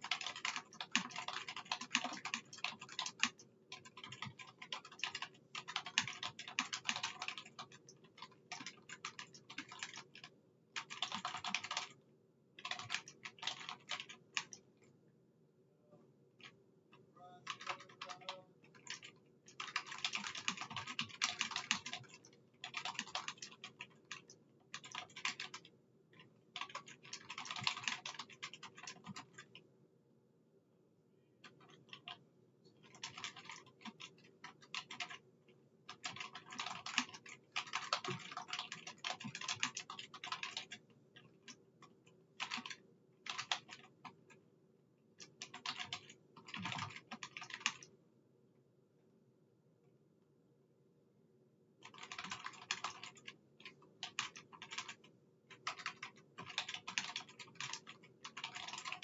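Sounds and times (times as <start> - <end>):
typing on computer keyboard: 0.0 - 12.0, 12.6 - 14.6, 17.3 - 29.6, 31.4 - 32.2, 32.8 - 35.2, 35.9 - 44.4, 45.2 - 47.9, 51.8 - 59.0.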